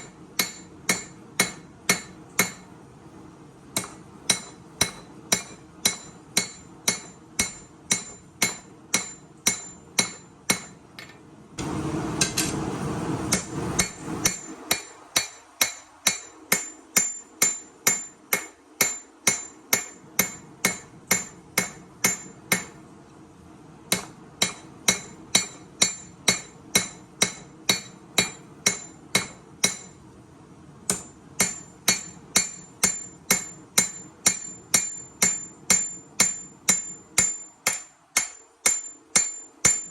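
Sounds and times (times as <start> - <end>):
hammer ringing on anvil: 0.4 - 2.7, 3.8 - 11.2, 13.3 - 22.7, 24.0 - 30.0, 30.9 - 39.9.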